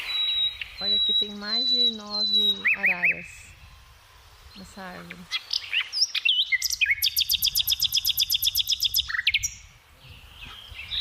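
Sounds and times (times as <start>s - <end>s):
songbird trilling: 0.0s - 3.8s, 4.5s - 11.0s.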